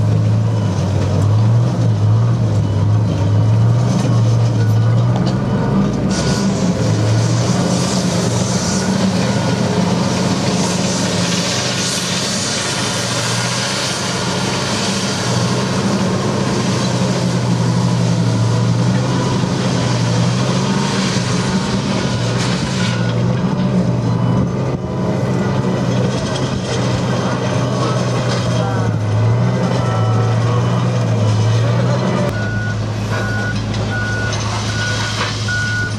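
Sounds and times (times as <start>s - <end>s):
diesel engine droning: 0.0s - 35.9s.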